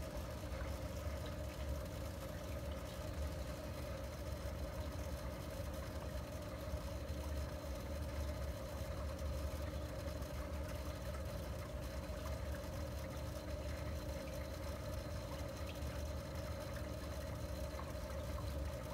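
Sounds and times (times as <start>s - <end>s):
aquarium filter pump humming: 0.0s - 18.9s.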